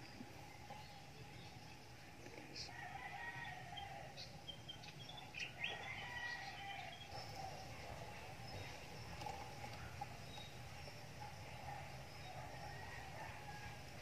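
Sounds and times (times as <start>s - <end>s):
faint birds chirping: 0.0s - 14.0s
steady low background noise: 0.0s - 14.0s.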